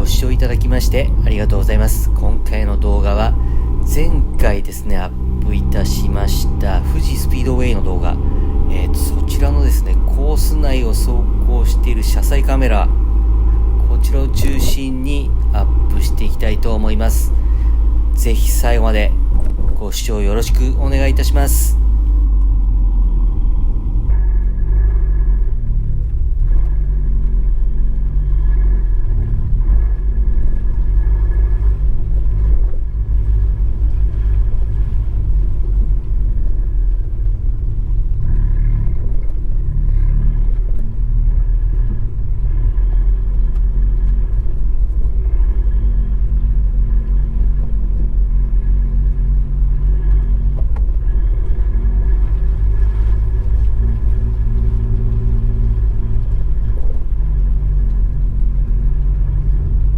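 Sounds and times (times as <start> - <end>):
car engine deep rumble: 0.0 - 59.9.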